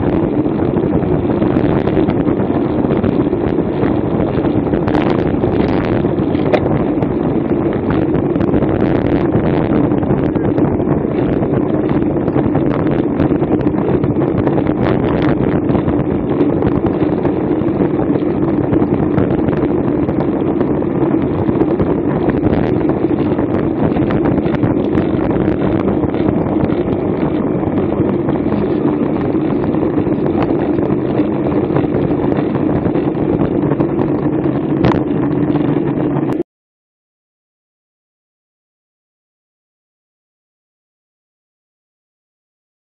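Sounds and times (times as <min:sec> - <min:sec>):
bicycle road noise on asphalt: 0:00.0 - 0:36.4
wind noise on microphone: 0:00.0 - 0:36.4.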